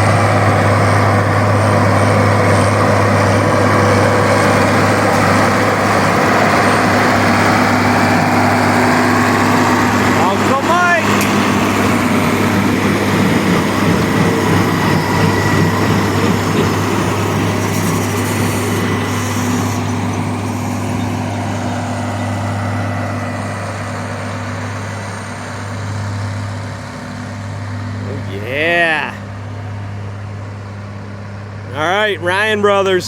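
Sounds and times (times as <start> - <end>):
tractor engine hum: 0.0 - 33.0.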